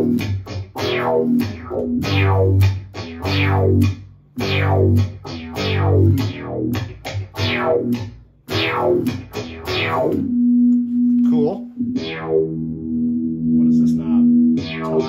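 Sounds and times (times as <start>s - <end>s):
electric guitar synth notes: 0.0s - 11.2s, 11.8s - 15.0s.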